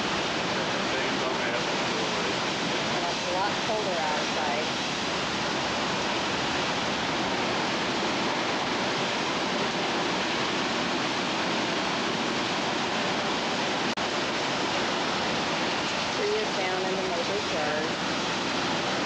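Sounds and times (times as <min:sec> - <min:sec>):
heavy rain: 0:00.0 - 0:19.0
hurricane wind: 0:00.0 - 0:19.0.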